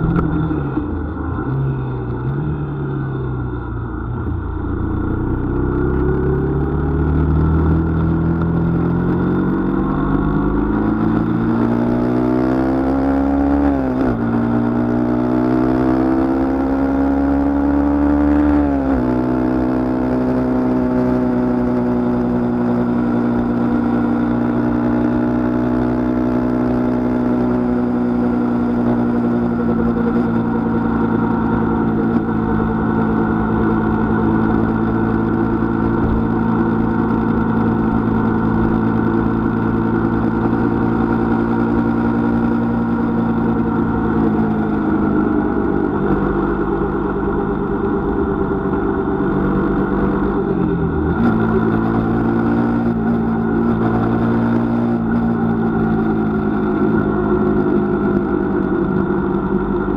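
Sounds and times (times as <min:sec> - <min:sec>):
vehicle engine accelerating: 0:00.0 - 0:59.9.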